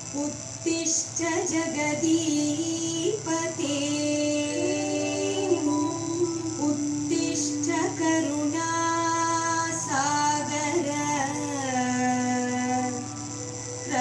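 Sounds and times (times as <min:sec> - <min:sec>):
person singing devotional song: 0:00.0 - 0:14.0
sustained musical accompaniment: 0:00.0 - 0:14.0.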